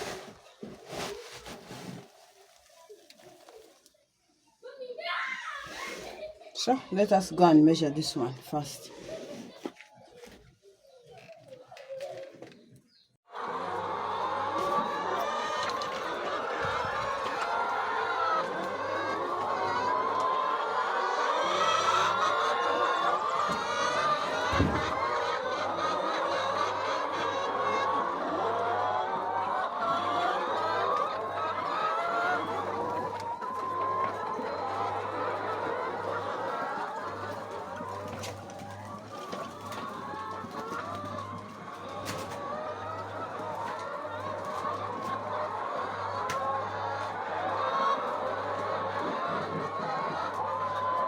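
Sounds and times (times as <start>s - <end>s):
hens clucking: 5.6s - 51.0s.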